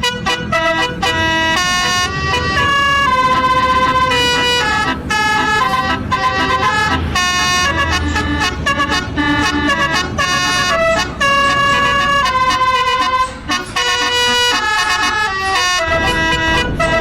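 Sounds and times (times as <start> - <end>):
bus horn playing melody: 0.0 - 17.0.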